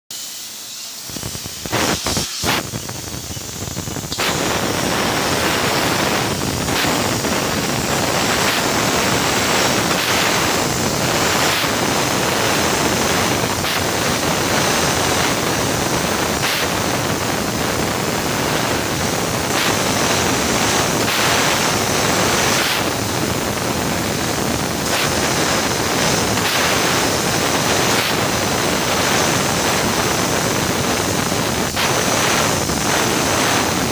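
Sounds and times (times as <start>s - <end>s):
laser cutter gas jet hissing: 0.1s - 33.9s
sparking: 0.1s - 33.9s.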